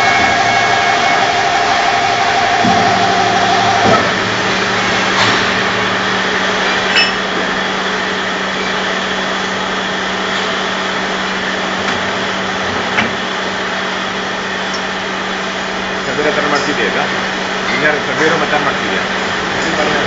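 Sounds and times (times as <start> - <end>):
drilling machine hum: 0.0 - 20.0.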